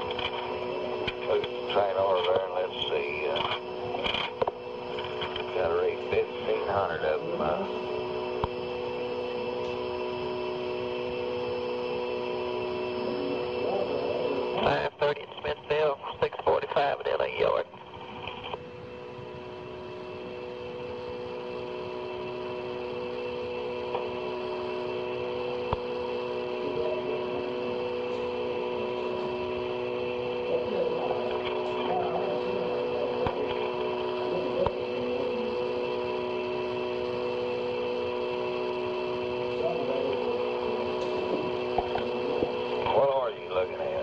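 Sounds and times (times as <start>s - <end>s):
telephone line hum and hiss: 0.0s - 44.0s.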